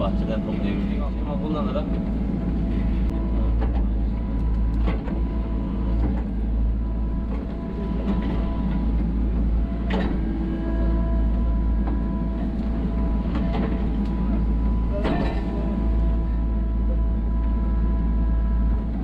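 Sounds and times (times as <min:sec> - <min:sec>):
diesel engine under load: 0:00.0 - 0:19.0
hydraulic whine: 0:00.0 - 0:19.0.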